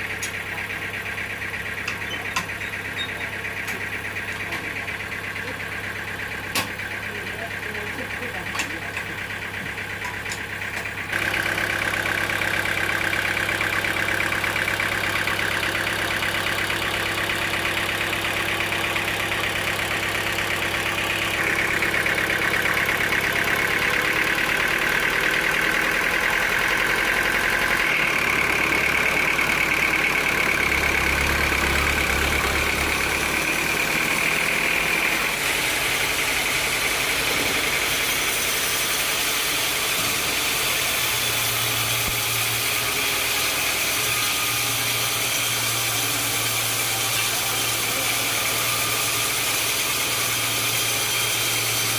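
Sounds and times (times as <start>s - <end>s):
sawmill machinery drone and whine: 0.0s - 51.9s.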